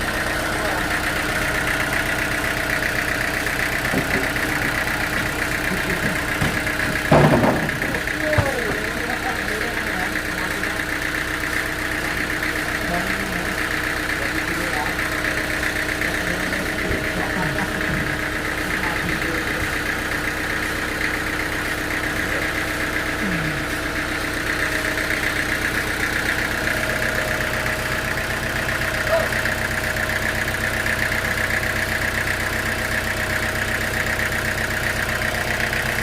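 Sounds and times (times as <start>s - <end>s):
sawmill machinery drone: 0.0s - 36.0s.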